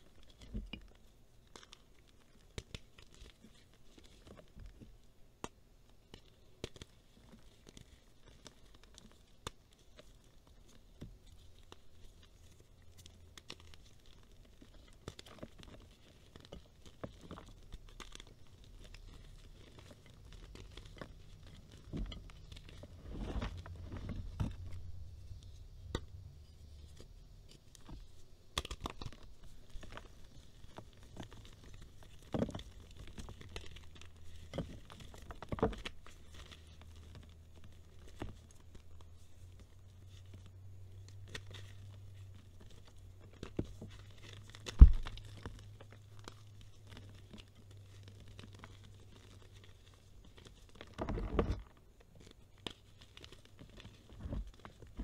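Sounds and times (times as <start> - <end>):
hands crushing chalk: 0.0 - 55.0.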